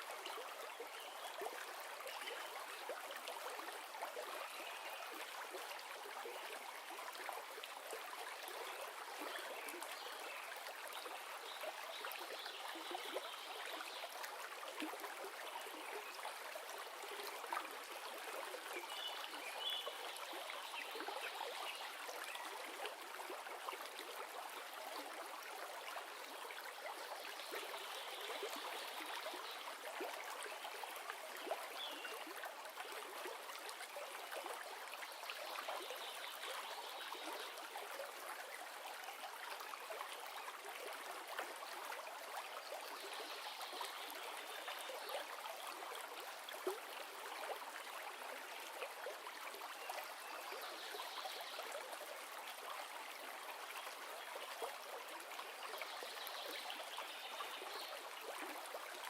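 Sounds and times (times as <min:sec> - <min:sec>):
river water flowing: 0:00.0 - 0:59.0
water trickling and gurgling: 0:00.0 - 0:59.0.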